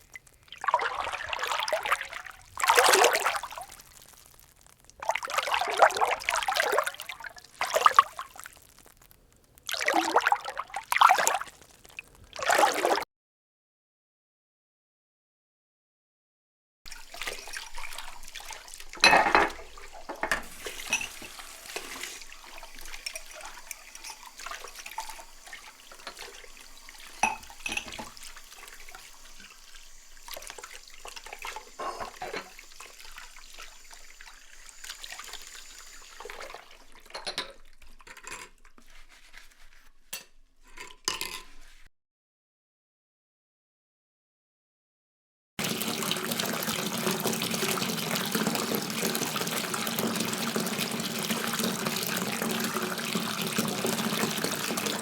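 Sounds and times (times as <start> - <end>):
water splashing and running: 0.0 - 13.0, 16.9 - 39.8, 45.6 - 55.0.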